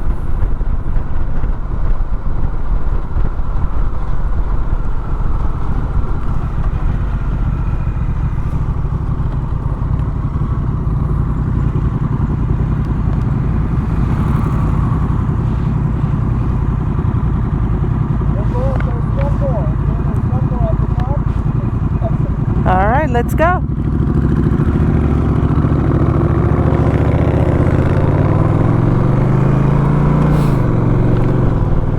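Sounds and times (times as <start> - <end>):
vehicle engine and road noise: 0.0 - 31.9.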